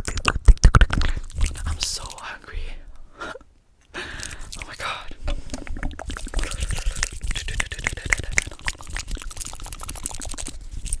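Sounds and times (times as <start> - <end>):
wet mouth clicks and smacks: 0.0 - 2.4, 4.2 - 11.0.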